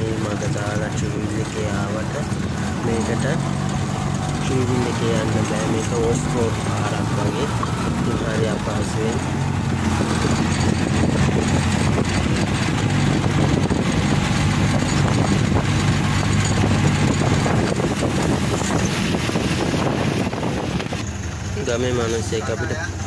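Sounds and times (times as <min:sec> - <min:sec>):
wind noise on microphone: 0:00.0 - 0:21.6
auto-rickshaw engine running: 0:00.0 - 0:23.0.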